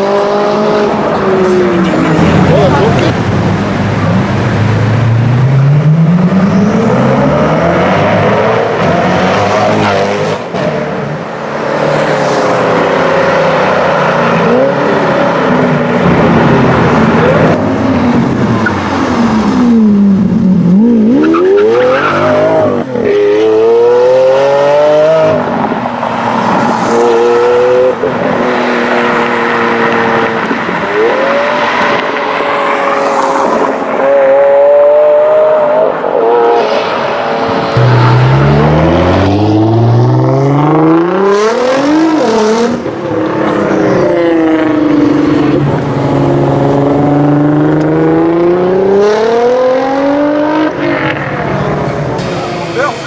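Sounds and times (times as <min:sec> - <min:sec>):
supercar engines revving: 0:00.0 - 0:53.0.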